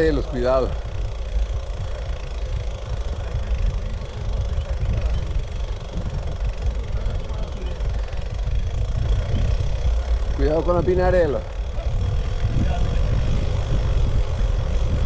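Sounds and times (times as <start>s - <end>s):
bike rolling over rough ground: 0.0s - 15.0s
wind buffeting microphone: 0.0s - 15.0s.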